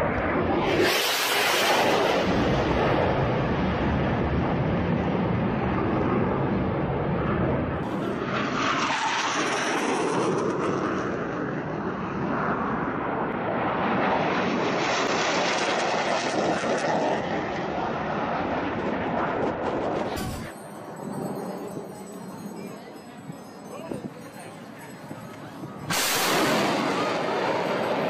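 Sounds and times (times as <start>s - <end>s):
military jet roaring past: 0.0s - 28.0s.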